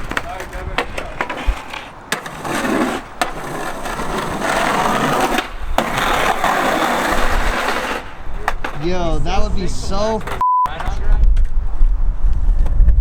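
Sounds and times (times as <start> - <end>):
skateboard clacks: 0.0 - 11.6
skateboard wheels rolling on pavement: 0.0 - 13.0.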